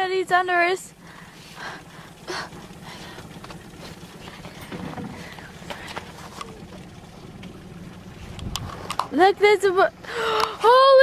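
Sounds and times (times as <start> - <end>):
water slapping against hull: 0.7 - 11.0
low rumble: 0.9 - 11.0.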